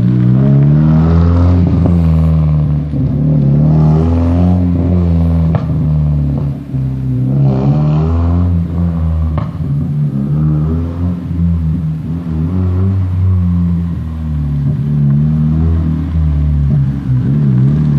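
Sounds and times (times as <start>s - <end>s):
car engine accelerating hard: 0.0s - 17.9s
exhaust pops: 0.0s - 17.9s.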